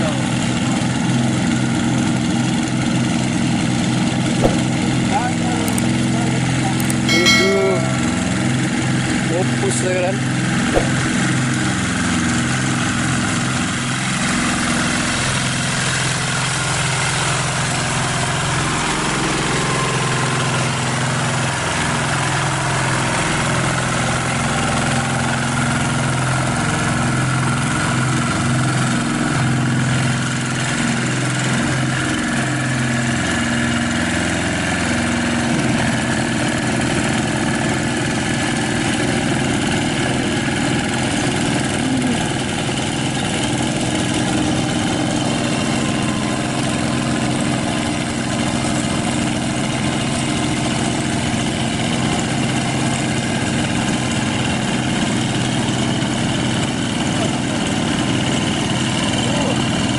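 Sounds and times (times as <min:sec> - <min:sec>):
diesel engines running under load: 0:00.0 - 0:07.1, 0:08.2 - 0:59.9.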